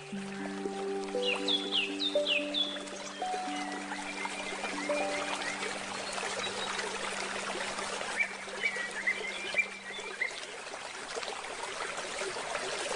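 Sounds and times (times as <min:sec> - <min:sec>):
songbirds chirping: 0:00.0 - 0:11.0
river water flowing: 0:00.0 - 0:12.9.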